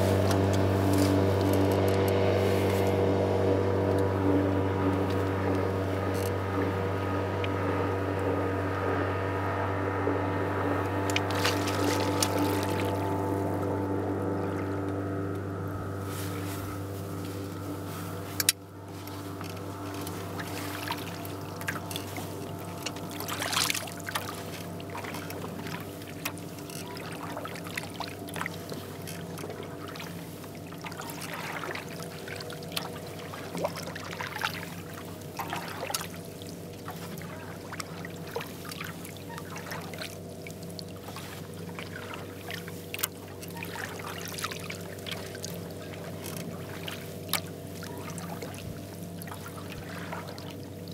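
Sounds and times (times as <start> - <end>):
low hum: 0.0 - 50.9
paddle splashing water: 0.0 - 50.9.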